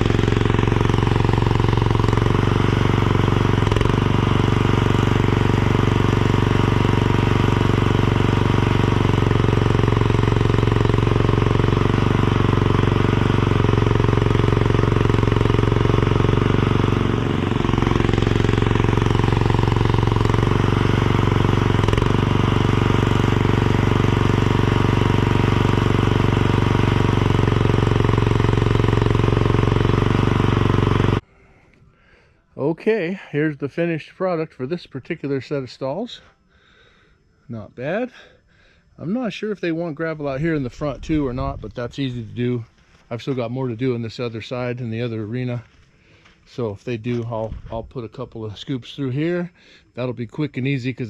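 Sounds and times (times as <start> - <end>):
tractor engine running: 0.0 - 31.2, 39.0 - 51.0.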